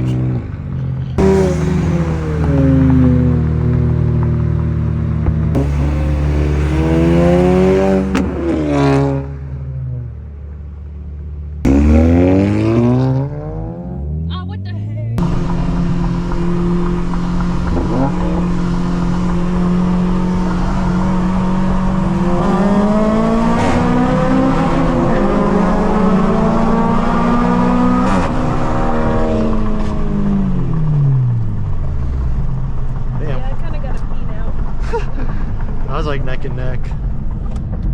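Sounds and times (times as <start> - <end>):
car engine at high revs: 0.0 - 37.9.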